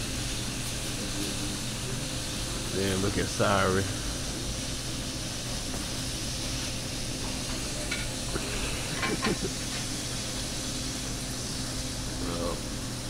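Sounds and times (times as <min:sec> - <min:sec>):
food sizzling on griddle: 0:00.0 - 0:13.0.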